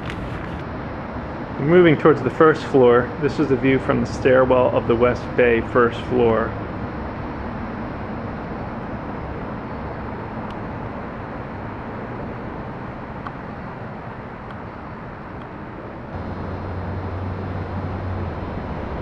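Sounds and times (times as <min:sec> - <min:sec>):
low hum: 0:00.0 - 0:19.0
steady background rumble: 0:00.0 - 0:19.0.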